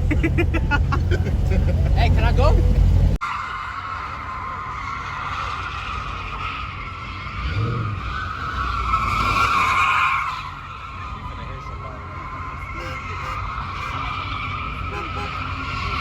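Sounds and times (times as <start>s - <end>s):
car engine rumble: 0.0s - 16.0s
tyres screeching: 0.0s - 16.0s.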